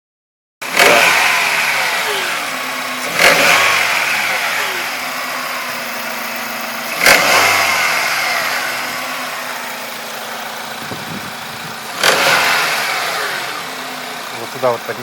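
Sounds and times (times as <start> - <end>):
car engine idling and revving: 0.6 - 15.0.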